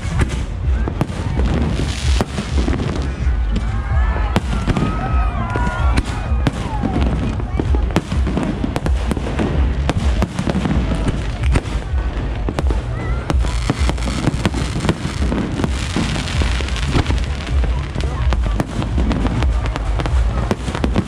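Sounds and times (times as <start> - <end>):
fireworks bangs and crackles: 0.0 - 21.0
low rumble of explosions: 0.0 - 21.0.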